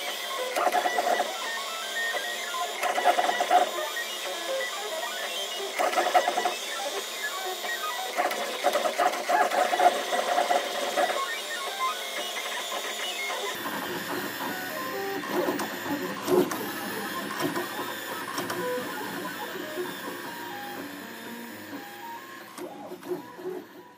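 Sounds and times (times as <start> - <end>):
printer stepper motors whirring: 0.0 - 23.9.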